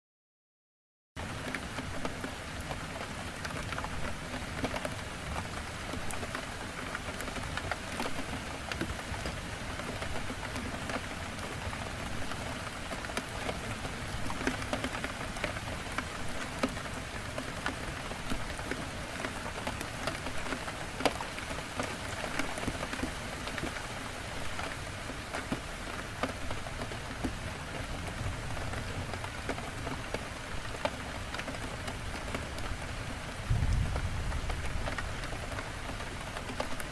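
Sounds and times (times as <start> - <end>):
heavy rain on a window: 1.2 - 36.9.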